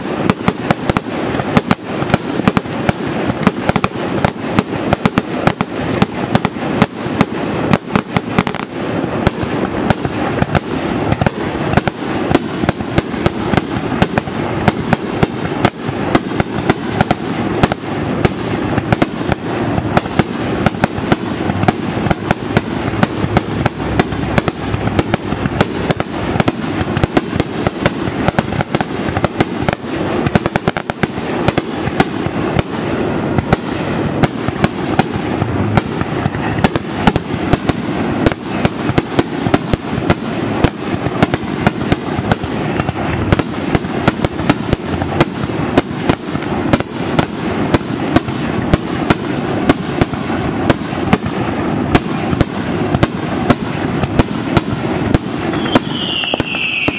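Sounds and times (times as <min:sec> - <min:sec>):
firework shells bursting: 0:00.0 - 0:56.9.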